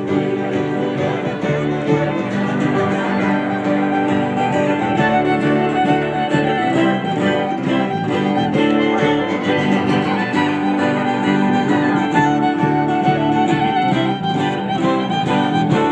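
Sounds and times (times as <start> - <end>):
bowed string music: 0.0 - 15.9.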